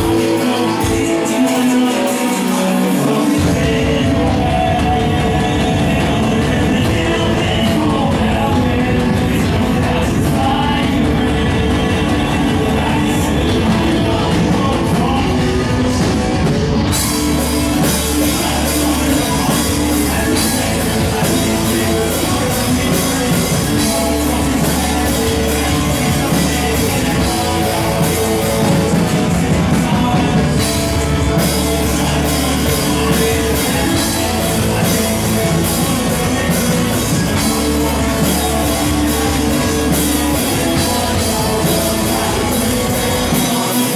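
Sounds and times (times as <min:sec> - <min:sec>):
live rock music: 0:00.0 - 0:43.9
person singing into a microphone: 0:00.0 - 0:43.9.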